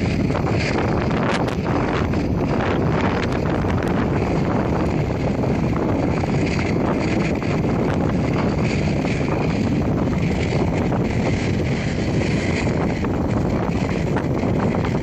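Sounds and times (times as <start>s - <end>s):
jet engine rush: 0.0s - 15.0s
wind buffeting microphone: 0.0s - 15.0s.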